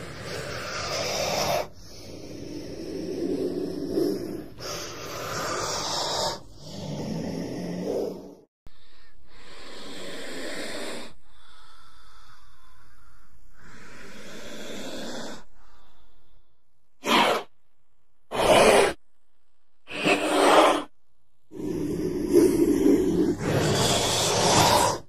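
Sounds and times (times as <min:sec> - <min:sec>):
snake hissing: 0:00.0 - 0:08.4, 0:09.3 - 0:17.6, 0:18.3 - 0:19.0, 0:19.9 - 0:20.9, 0:21.5 - 0:25.0.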